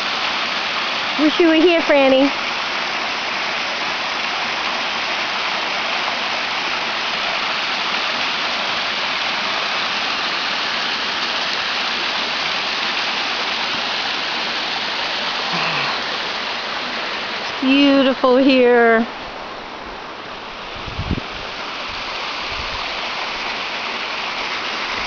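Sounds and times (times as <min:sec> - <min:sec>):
small waterfall rushing: 0:00.0 - 0:25.0.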